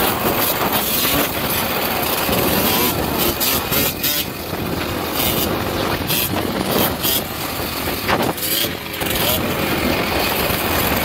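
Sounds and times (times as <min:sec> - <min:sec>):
other quad engines: 0:00.0 - 0:11.0
quad engine revving: 0:00.0 - 0:11.0.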